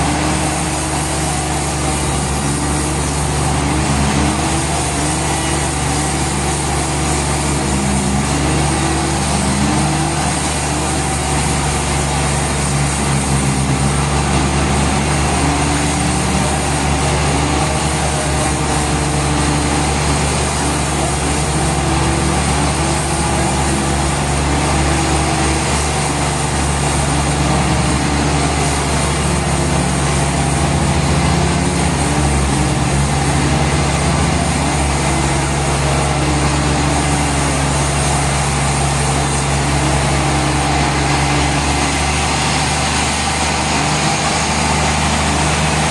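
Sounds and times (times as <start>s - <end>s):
sawmill machinery droning: 0.0s - 45.9s.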